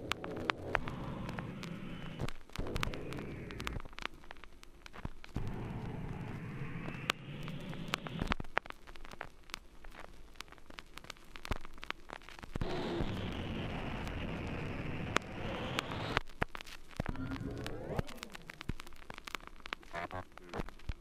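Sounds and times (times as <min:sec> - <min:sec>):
sharp crackles and clicks: 0:00.0 - 0:21.0.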